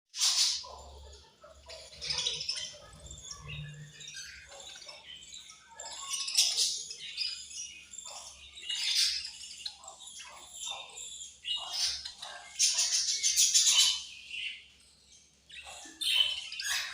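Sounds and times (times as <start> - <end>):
budgerigars chirping and chattering: 0.1 - 16.9.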